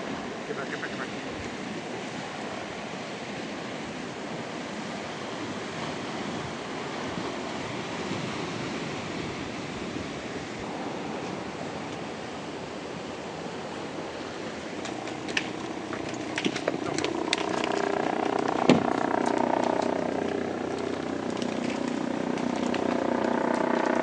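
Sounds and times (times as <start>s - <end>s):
lake water washing around boat: 0.0s - 24.0s
wind on microphone: 0.0s - 24.0s.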